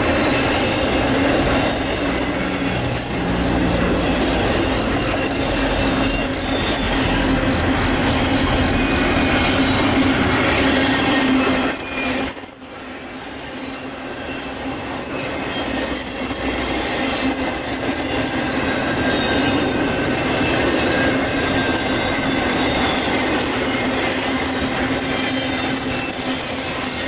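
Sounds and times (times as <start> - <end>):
high-pitched wheel squeals: 0.0 - 17.4, 18.0 - 27.0
freight train wheels on rail: 0.0 - 27.0.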